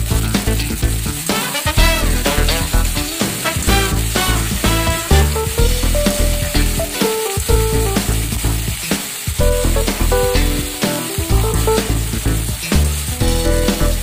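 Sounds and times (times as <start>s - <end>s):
background music: 0.0s - 14.0s
vegetables sizzling in a wok: 0.0s - 14.0s.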